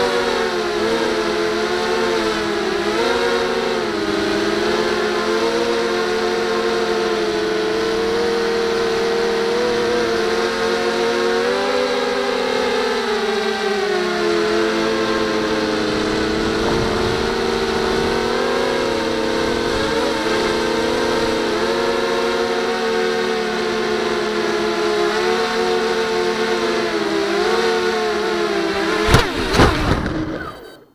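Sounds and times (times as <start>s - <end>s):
multirotor drone motors whining: 0.0s - 30.9s.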